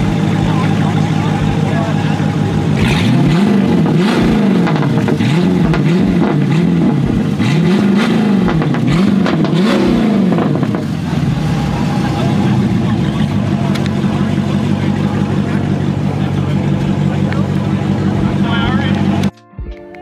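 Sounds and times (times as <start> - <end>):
car engine revving: 0.0 - 19.3
exhaust crackles: 0.0 - 19.3.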